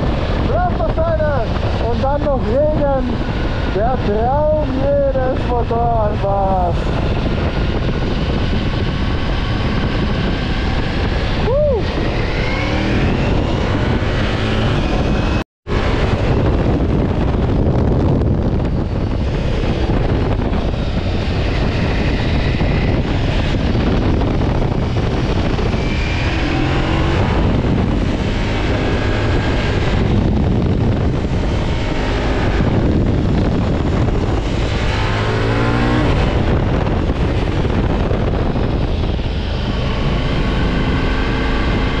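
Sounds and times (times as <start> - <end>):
motorcycle engine revving: 0.0 - 42.0
wind rushing: 0.0 - 42.0.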